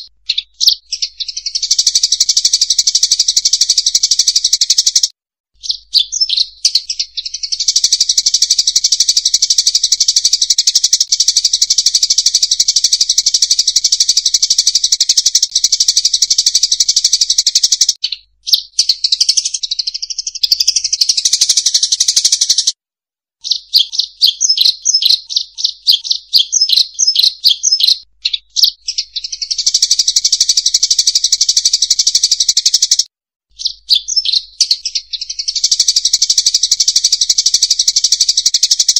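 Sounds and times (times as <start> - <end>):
flock of birds chirping: 0.0 - 22.7, 23.5 - 33.0, 33.6 - 38.9.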